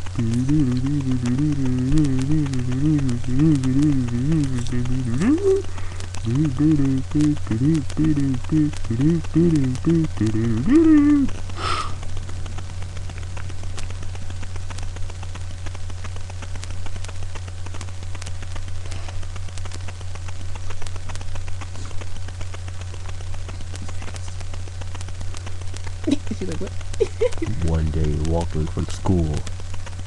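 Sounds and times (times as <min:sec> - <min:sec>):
crackling clicks: 0:00.0 - 0:30.0
low electrical hum: 0:00.0 - 0:30.0.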